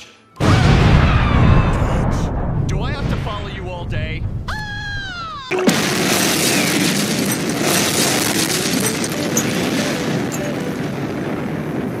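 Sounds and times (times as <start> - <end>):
explosion rumble: 0.4 - 12.0.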